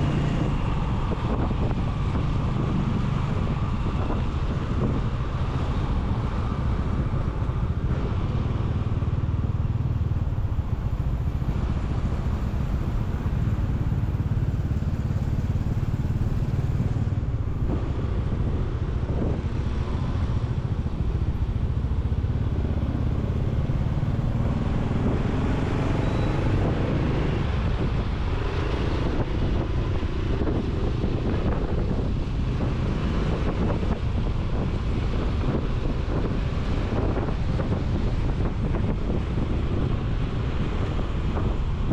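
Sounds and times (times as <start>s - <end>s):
motorcycle engine and road noise: 0.0s - 41.9s
wind rumble on microphone: 0.0s - 41.9s.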